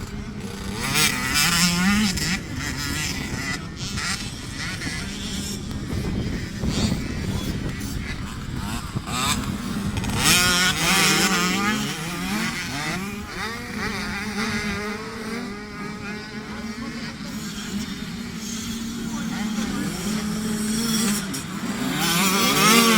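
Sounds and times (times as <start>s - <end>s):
motocross bike engines revving: 0.0s - 22.9s
steady engine drone: 0.0s - 22.9s.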